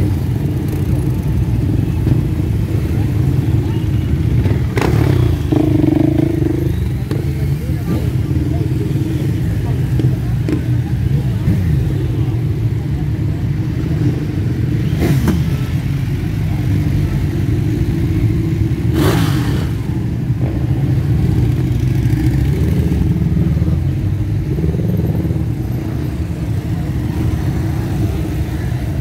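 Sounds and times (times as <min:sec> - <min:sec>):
motorcycle engines droning: 0:00.0 - 0:29.0.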